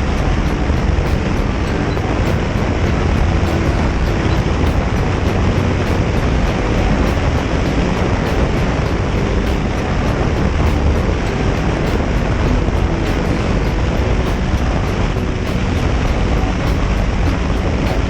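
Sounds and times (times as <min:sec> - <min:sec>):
wind rushing on microphone: 0:00.0 - 0:18.0.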